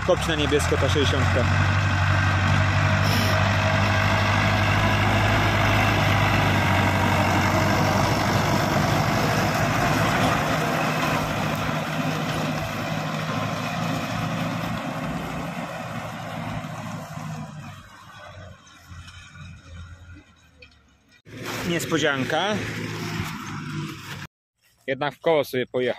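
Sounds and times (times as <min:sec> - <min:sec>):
tractor diesel engine running: 0:00.0 - 0:24.3.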